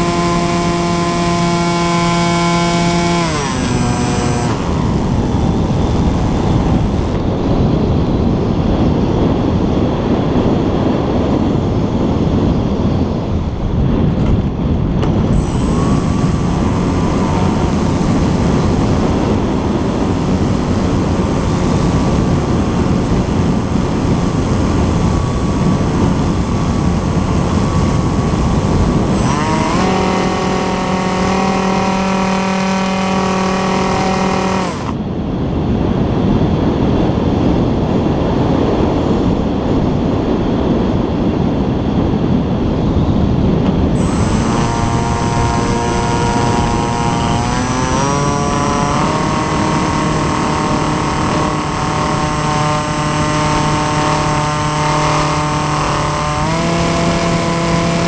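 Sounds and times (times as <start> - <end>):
electric motor and propeller whine: 0.0 - 58.0
wind rushing over microphone: 0.0 - 58.0.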